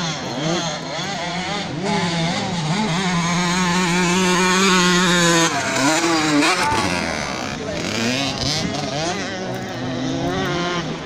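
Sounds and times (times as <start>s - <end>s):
two-stroke motorbike engine revving: 0.0s - 11.0s.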